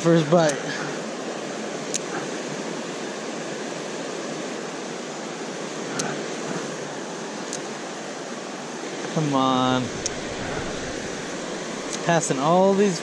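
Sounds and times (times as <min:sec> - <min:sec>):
river water flowing over rocks: 0:00.0 - 0:13.0.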